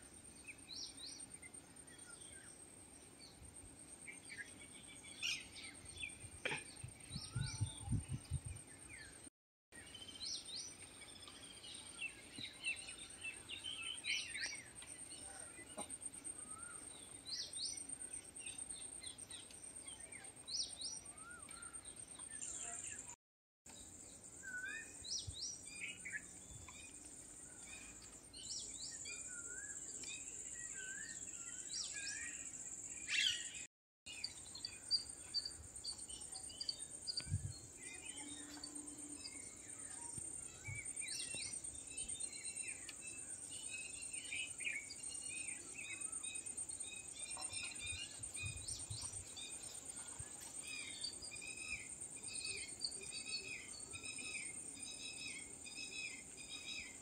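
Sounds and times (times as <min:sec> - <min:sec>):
small birds chirping: 0:04.0 - 0:57.0.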